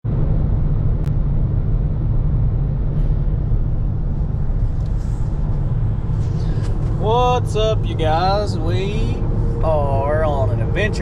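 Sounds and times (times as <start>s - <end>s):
car cabin road noise: 0.1s - 11.0s.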